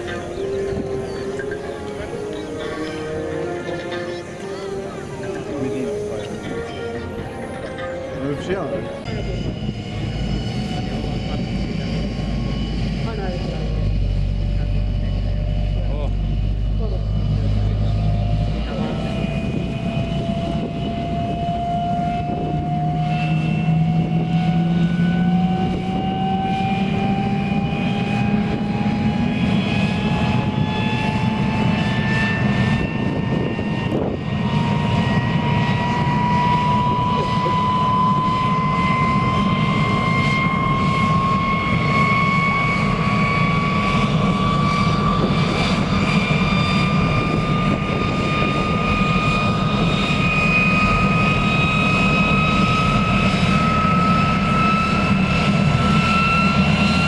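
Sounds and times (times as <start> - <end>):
jet engine rumble: 0.0 - 57.0
jet engine whine rising in pitch: 0.0 - 57.0.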